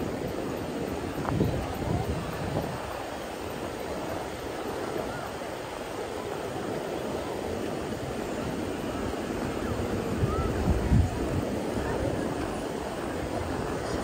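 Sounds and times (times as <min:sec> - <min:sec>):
wind gust on microphone: 0:00.0 - 0:05.6, 0:06.2 - 0:14.0
faint distant voices: 0:00.0 - 0:14.0
surf washing: 0:00.0 - 0:14.0
wind: 0:00.0 - 0:14.0.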